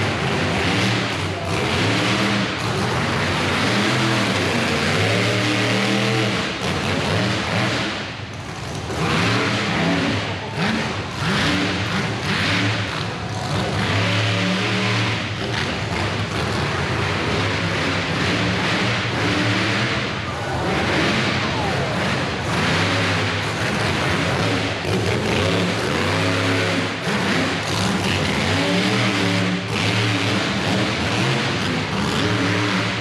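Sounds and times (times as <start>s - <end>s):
monster truck engine revving: 0.0s - 33.0s.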